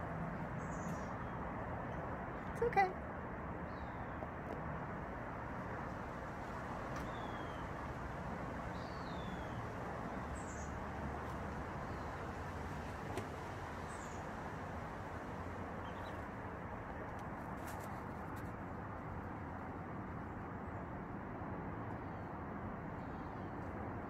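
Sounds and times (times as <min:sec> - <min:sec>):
outdoor background hum: 0:00.0 - 0:24.0.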